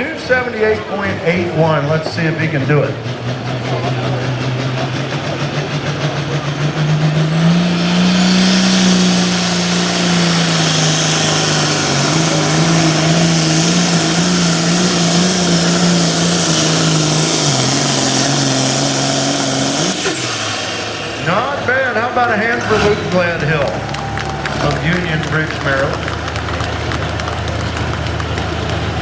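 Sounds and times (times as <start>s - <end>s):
tractor diesel engine running flat out: 0.0s - 29.0s.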